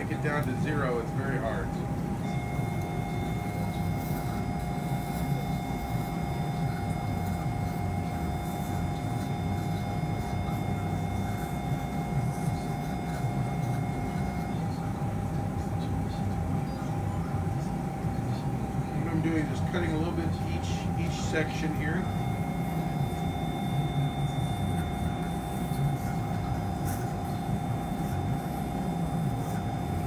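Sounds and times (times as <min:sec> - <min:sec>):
steady electronic tone: 0:00.0 - 0:14.8, 0:19.0 - 0:30.0
low hum of equipment: 0:00.0 - 0:30.0.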